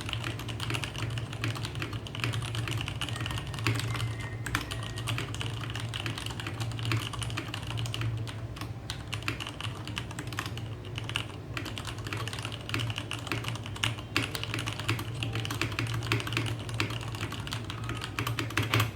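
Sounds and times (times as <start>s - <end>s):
rapid mechanical keyboard typing: 0.0s - 18.9s.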